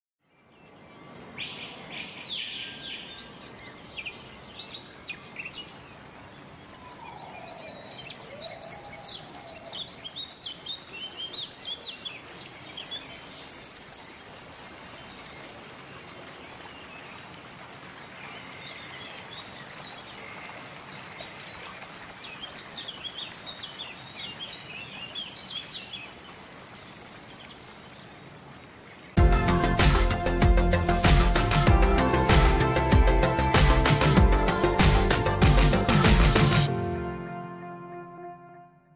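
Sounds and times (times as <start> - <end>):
outdoor background hiss: 0.2 - 37.0.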